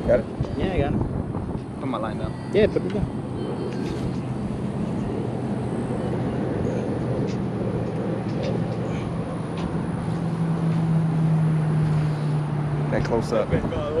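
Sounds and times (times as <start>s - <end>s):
highway traffic noise: 0.0s - 14.0s
vehicle drone: 0.0s - 14.0s.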